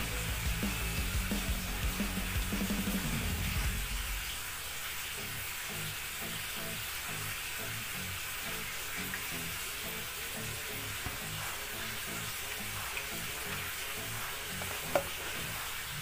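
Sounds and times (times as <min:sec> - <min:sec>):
soft bass line music: 0:00.0 - 0:04.3, 0:05.7 - 0:16.0
steady hiss: 0:00.0 - 0:16.0.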